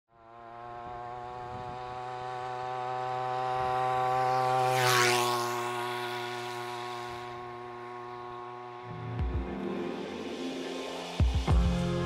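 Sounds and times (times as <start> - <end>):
motorized bicycle passing by: 0.1 - 11.1
two-stroke engine buzzing: 0.1 - 11.8.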